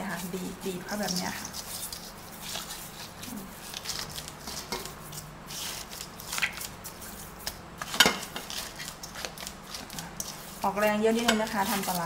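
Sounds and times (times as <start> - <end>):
hands kneading salt into fish: 0.0 - 12.0.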